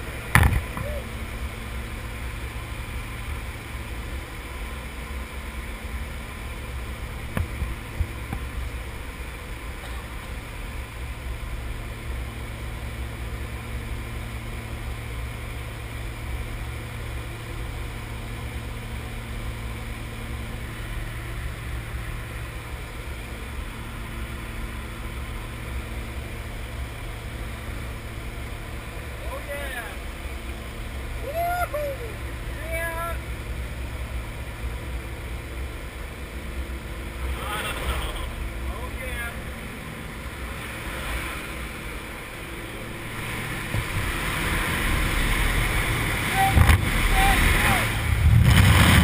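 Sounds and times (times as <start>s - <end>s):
plane engines droning: 0.0s - 49.0s.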